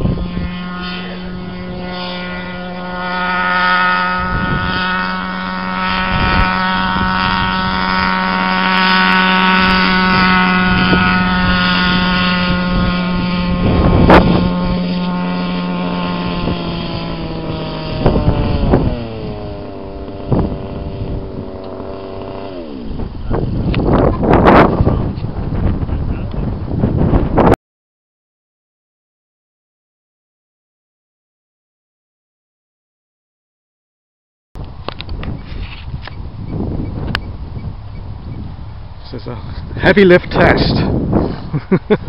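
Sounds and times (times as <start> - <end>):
model helicopter running: 0.0 - 27.5, 34.6 - 42.0
wind buffeting microphone: 0.0 - 27.6, 34.6 - 42.0.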